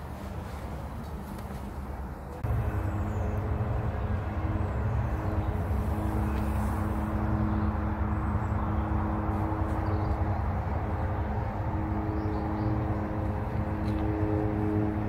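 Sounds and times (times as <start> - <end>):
large engine rumbling: 0.0 - 15.0.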